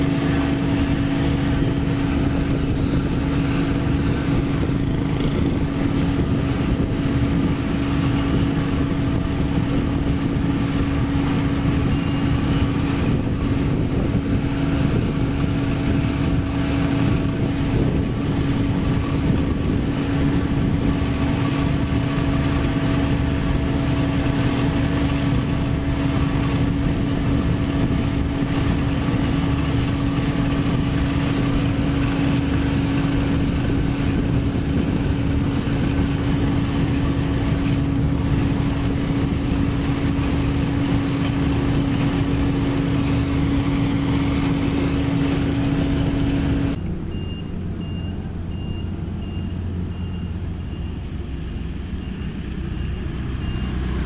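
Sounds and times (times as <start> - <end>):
diesel engines humming: 0.0 - 54.0.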